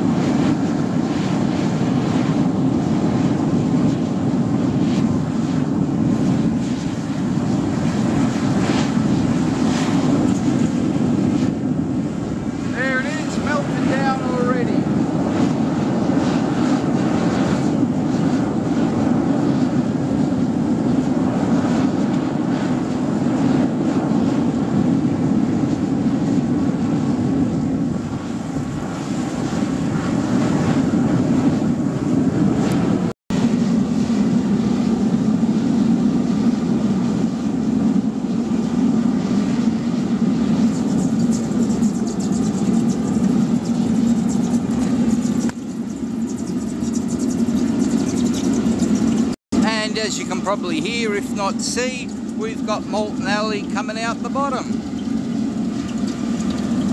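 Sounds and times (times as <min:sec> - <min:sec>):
oil burner flame roar: 0:00.0 - 0:56.9.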